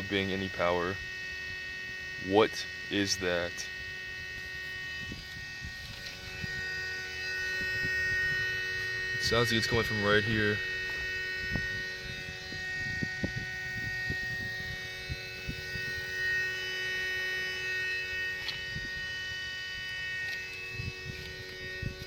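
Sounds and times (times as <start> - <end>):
steady high-pitched whine: 0.0 - 22.0.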